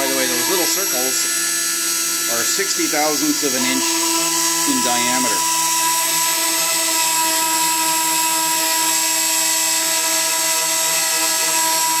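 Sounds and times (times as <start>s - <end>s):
router spindle whining: 0.0s - 12.0s.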